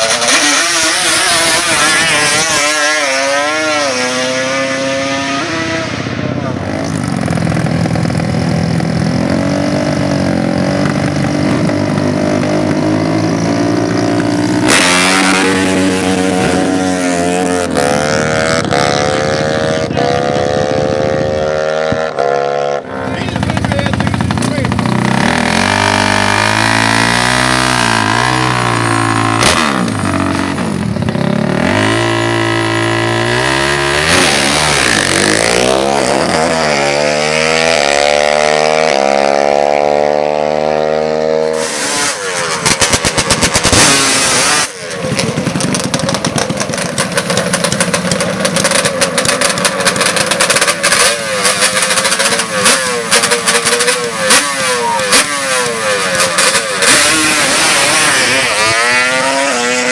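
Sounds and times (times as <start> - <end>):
atv engines revving: 0.0 - 59.9
engine running with rough stutter: 6.1 - 22.1, 22.8 - 59.9.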